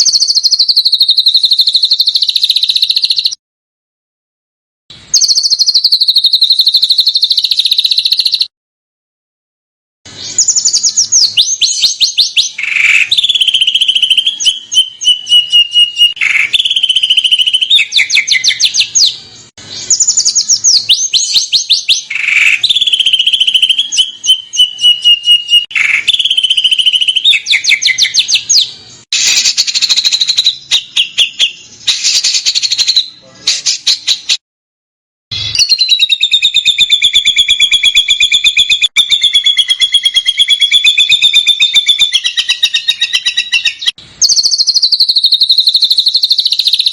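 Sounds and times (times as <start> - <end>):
songbird trilling: 0.0 - 3.4, 5.1 - 8.5, 10.2 - 19.2, 19.8 - 34.3, 35.4 - 46.9.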